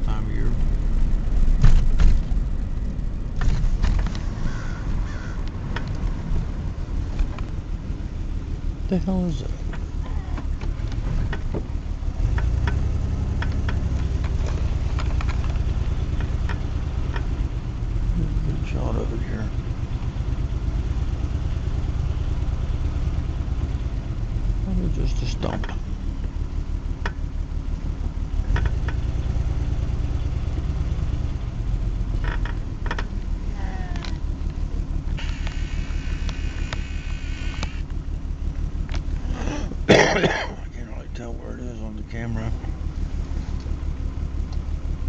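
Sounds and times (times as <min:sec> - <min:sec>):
engine-like hum: 0:00.0 - 0:45.0.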